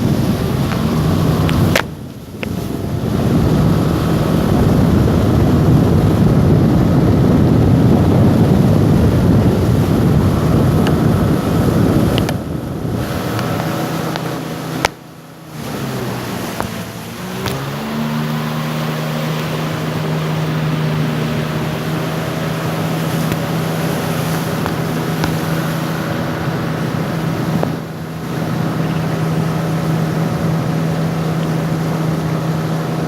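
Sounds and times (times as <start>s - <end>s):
small motorboat engine: 0.0s - 33.0s
wind buffeting microphone: 0.0s - 33.0s.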